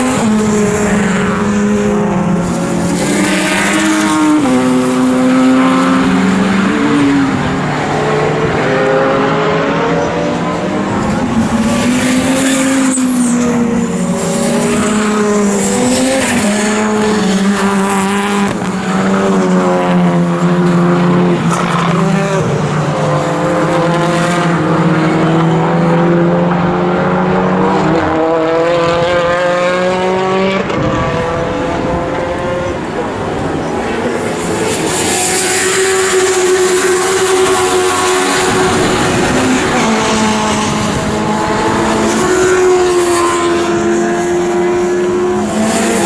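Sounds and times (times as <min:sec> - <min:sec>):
racing car engines: 0:00.0 - 0:46.0.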